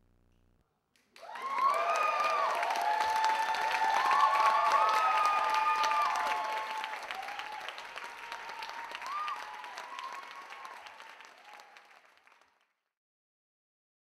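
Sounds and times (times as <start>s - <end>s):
audience applauding: 1.0s - 12.7s.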